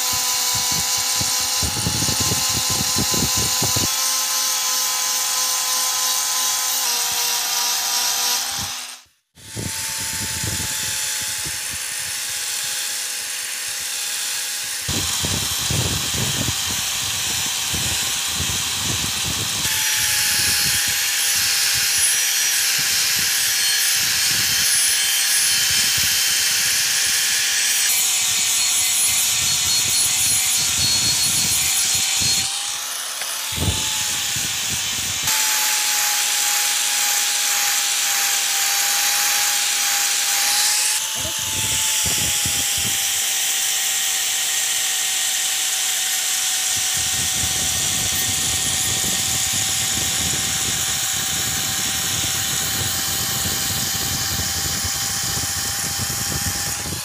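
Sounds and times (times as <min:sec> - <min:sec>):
angle grinder grinding metal: 0:00.0 - 0:57.0.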